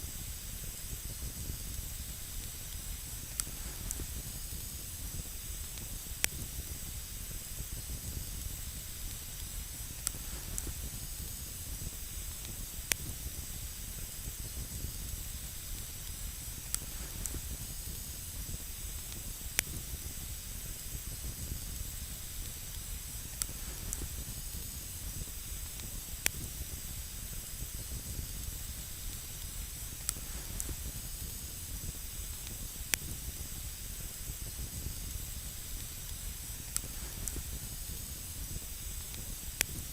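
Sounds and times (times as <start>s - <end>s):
campfire hissing: 0.0s - 39.9s
burning wood crackling and popping: 0.1s - 39.9s.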